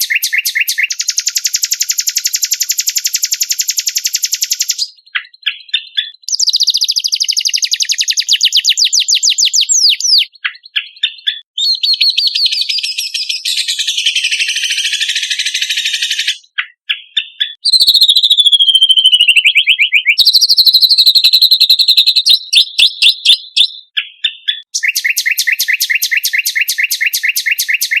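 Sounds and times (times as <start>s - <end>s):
songbird chirps and trills: 0.0s - 28.0s.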